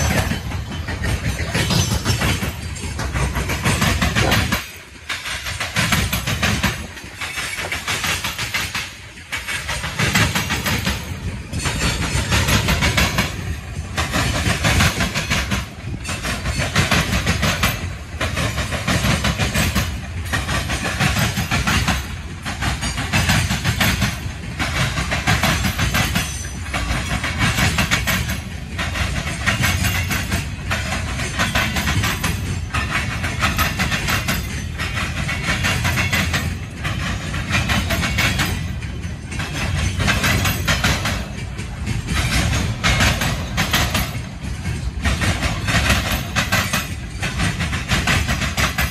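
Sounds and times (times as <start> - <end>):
freight train cars rolling past: 0.0 - 48.9.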